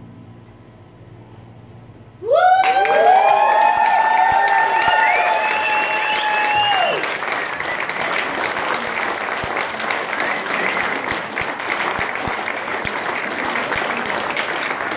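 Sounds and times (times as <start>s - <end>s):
audience applauding: 2.3s - 14.9s.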